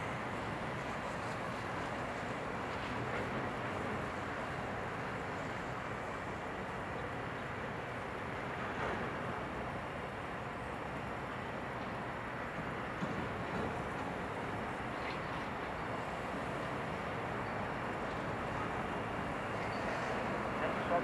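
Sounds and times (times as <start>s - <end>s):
jet engines rushing at taxi thrust: 0.0s - 21.0s.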